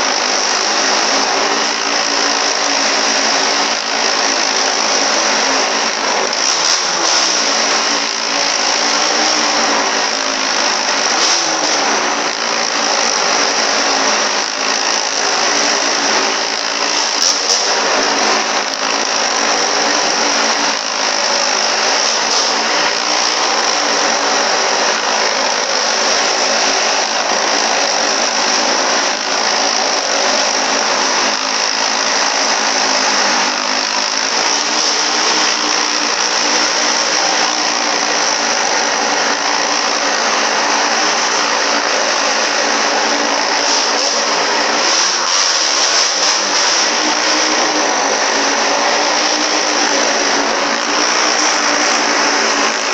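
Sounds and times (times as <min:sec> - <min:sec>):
motorcycle engines running hard: 0:00.0 - 0:52.9.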